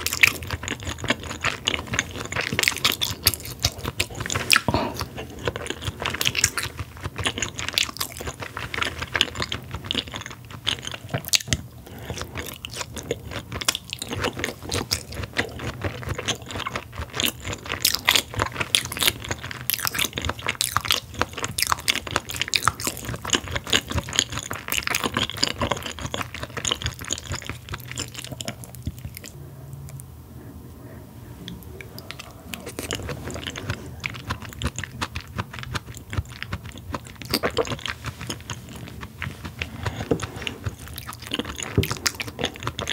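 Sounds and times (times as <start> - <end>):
chewing clicks and smacks: 0.0 - 30.1, 31.5 - 42.9.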